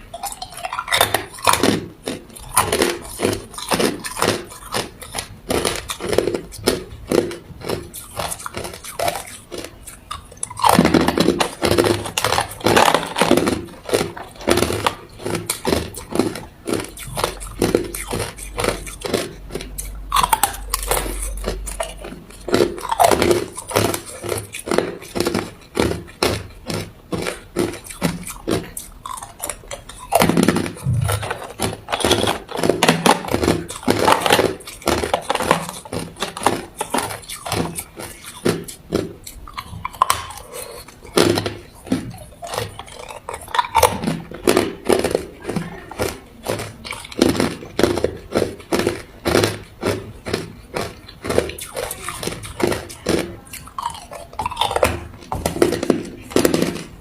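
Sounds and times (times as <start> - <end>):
person crunching ice: 0.0 - 57.0.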